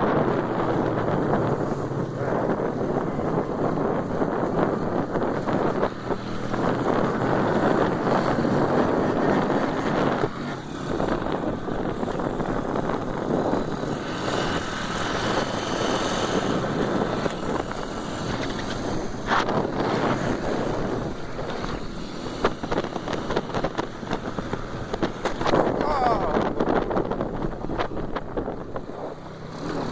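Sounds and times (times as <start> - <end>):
high engine whine: 0.0 - 29.9
motorcycle engines running: 0.0 - 29.9
wind noise on microphone: 0.0 - 29.9.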